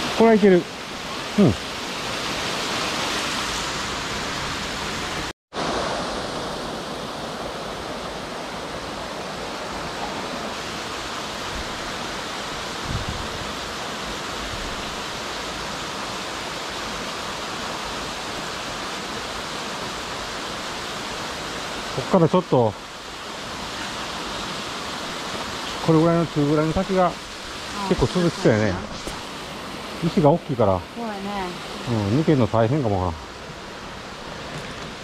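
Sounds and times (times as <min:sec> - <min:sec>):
stream pouring over rocks: 0:00.0 - 0:35.0.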